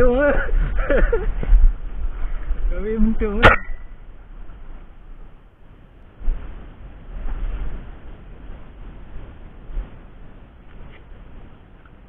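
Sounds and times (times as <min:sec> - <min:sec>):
wind against camera: 0:00.0 - 0:12.0.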